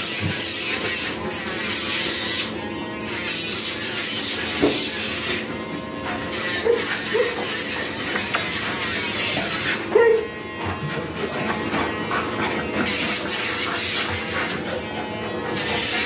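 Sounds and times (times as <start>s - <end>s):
electric nail grinder buzzing: 0.0s - 16.0s.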